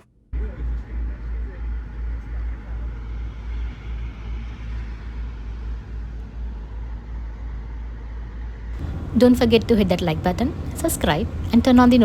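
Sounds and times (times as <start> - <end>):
car road noise rumble: 0.4 - 12.0.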